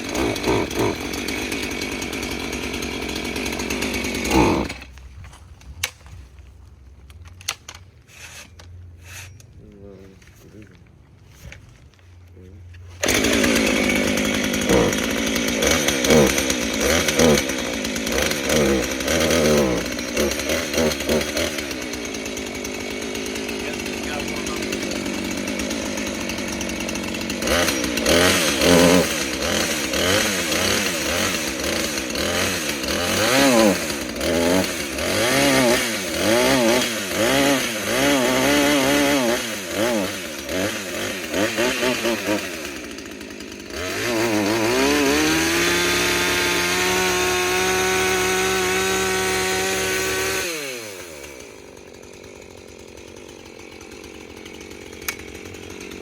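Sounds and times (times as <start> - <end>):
chainsaw cutting wood: 0.0 - 6.2, 7.1 - 9.6, 12.8 - 56.0.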